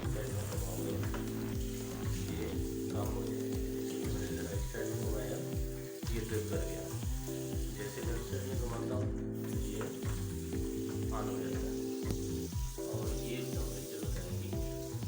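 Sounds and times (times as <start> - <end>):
hissy crackling layer: 0.0 - 15.0
steady bass beat: 0.0 - 15.0.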